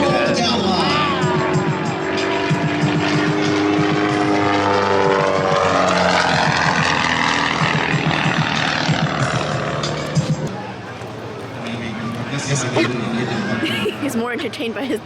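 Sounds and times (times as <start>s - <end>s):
airplane engine overhead: 0.0s - 15.0s.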